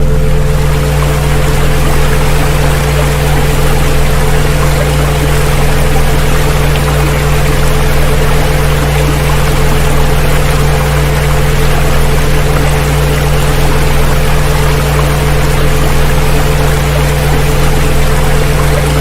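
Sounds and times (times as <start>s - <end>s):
rushing water: 0.0s - 19.0s
steady pure tones: 0.0s - 19.0s.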